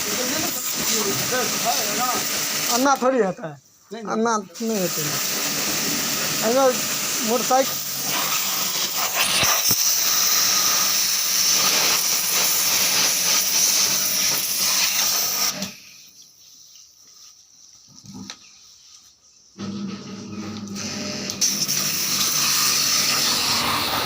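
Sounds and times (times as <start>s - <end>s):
high-pressure water jet spraying: 0.0s - 3.3s, 4.5s - 16.2s, 19.6s - 24.0s.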